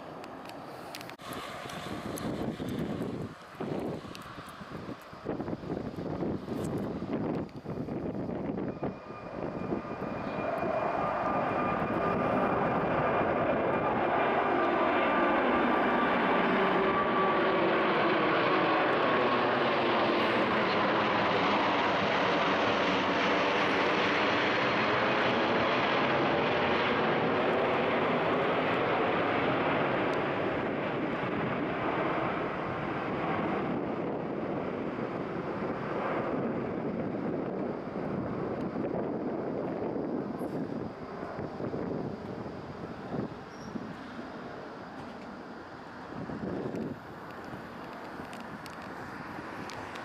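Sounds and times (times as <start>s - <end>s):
jet engines roaring overhead: 0.0s - 50.0s.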